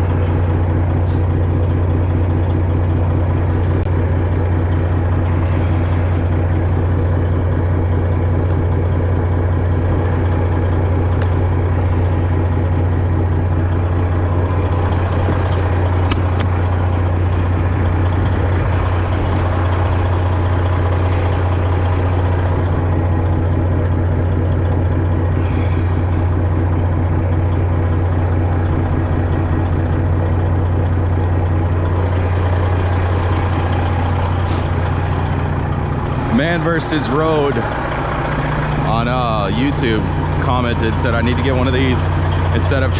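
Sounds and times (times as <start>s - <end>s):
engine running low drone: 0.0s - 42.9s.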